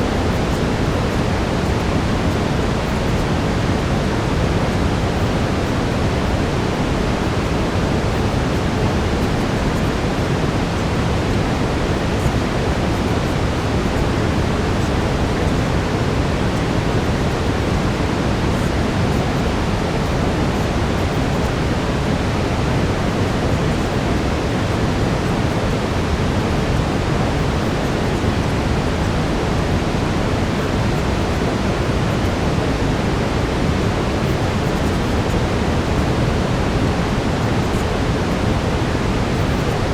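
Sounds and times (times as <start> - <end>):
brown noise hiss: 0.0 - 39.9
faint steady tone: 0.0 - 39.9.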